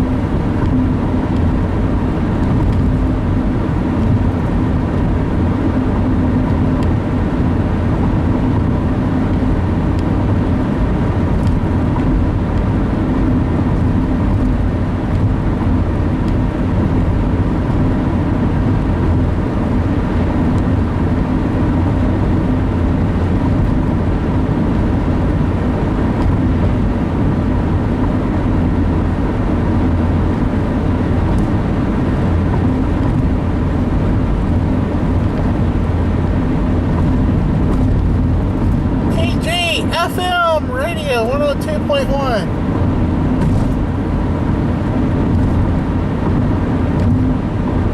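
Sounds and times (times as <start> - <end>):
car cabin road and engine noise: 0.0 - 47.9.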